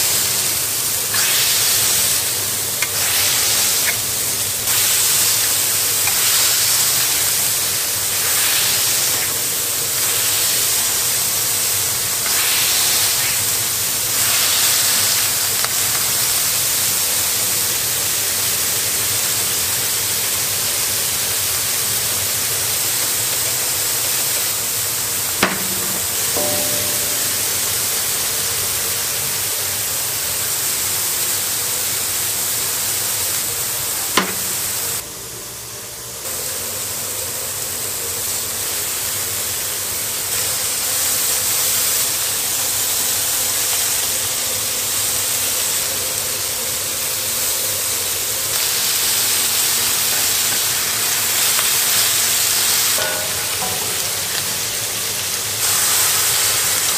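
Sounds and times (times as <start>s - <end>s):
meat sizzling on a griddle: 0.0s - 56.9s.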